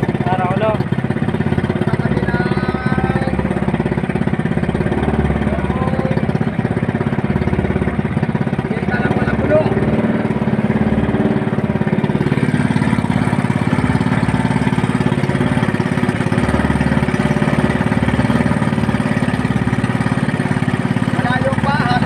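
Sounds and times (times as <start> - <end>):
boat engine puttering: 0.0 - 22.0.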